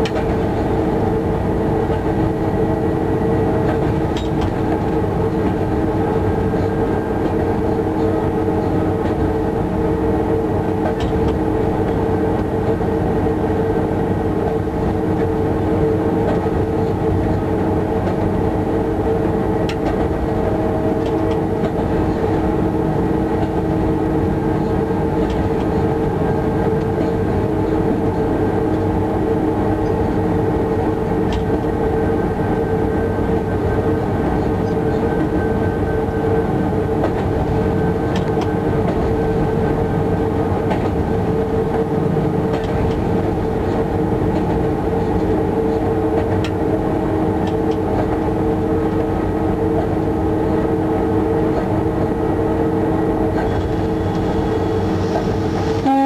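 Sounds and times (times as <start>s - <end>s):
locomotive hum: 0.0s - 56.0s
wheels rumbling on track: 0.0s - 56.0s.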